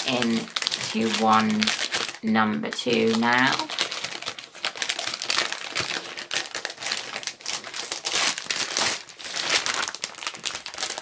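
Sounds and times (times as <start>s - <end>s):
foil paper wrapper crinkling: 0.0s - 11.0s.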